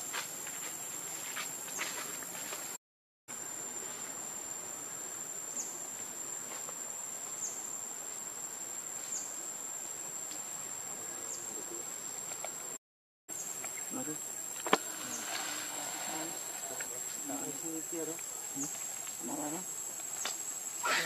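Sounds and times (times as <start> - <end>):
soft outdoor hiss: 0.0 - 21.0
high-pitched insect drone: 3.4 - 21.0.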